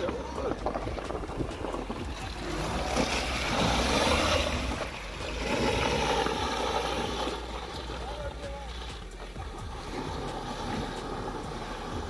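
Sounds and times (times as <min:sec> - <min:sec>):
car engine running: 0:00.0 - 0:12.0
tyres splashing through mud: 0:00.0 - 0:12.0.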